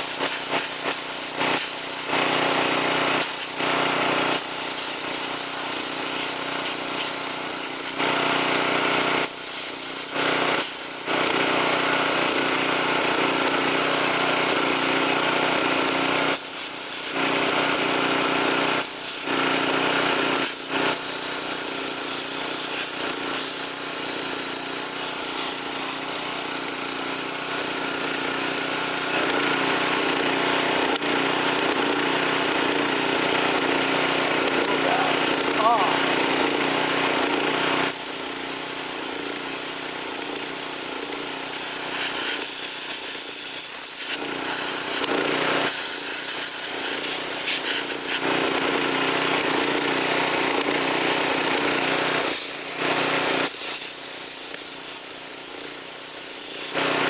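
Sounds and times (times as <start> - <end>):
shop machinery running: 0.0 - 57.0.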